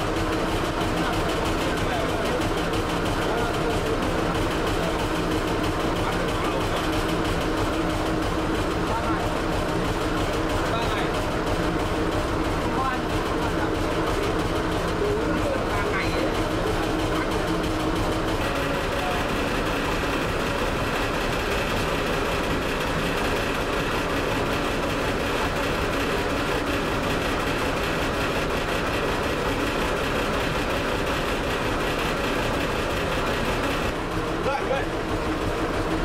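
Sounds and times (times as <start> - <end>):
motor boat engine running: 0.0 - 36.0.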